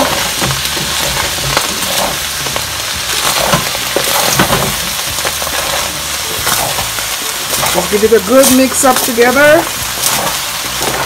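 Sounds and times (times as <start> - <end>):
food sizzling in a pot: 0.0 - 11.0
utensil scraping metal pot: 0.0 - 11.0.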